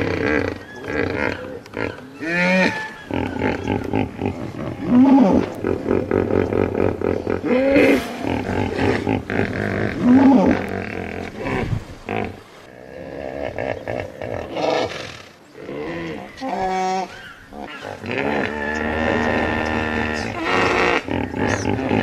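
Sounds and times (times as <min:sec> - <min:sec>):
hippopotamus grunts and bellows: 0:00.0 - 0:22.0.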